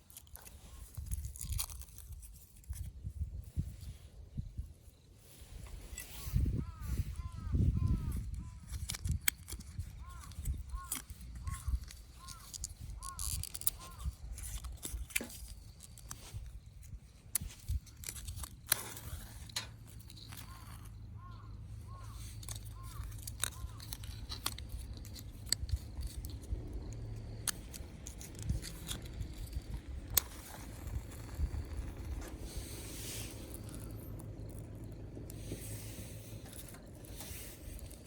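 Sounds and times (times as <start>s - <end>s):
sharp clicks and scraping: 0.0s - 3.0s, 5.4s - 38.0s
low steady rumble: 0.0s - 38.0s.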